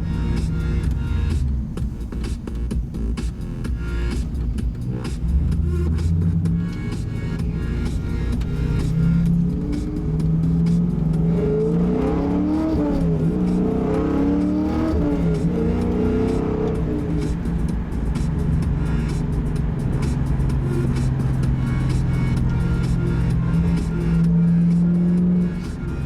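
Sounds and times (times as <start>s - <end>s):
car engine revving: 0.0s - 26.0s
exhaust drone: 0.0s - 26.0s.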